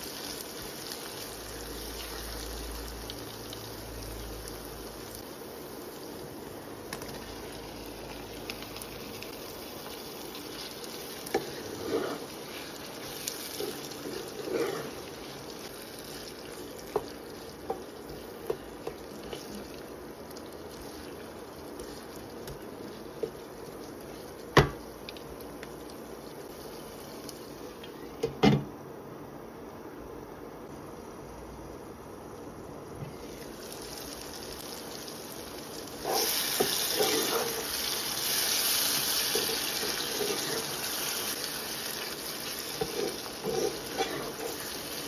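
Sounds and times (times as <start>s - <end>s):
vegetables sizzling in oil: 0.0s - 28.1s, 33.1s - 45.0s.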